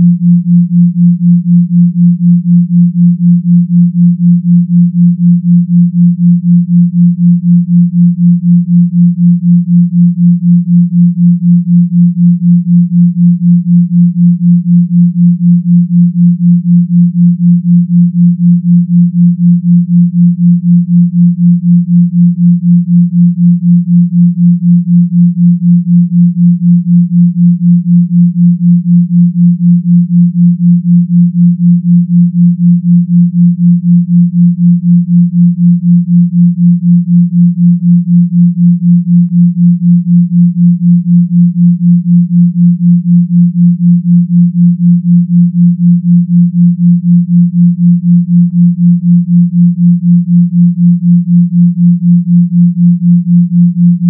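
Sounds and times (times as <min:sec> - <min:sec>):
pulsing low sine hum: 0:00.0 - 0:54.0.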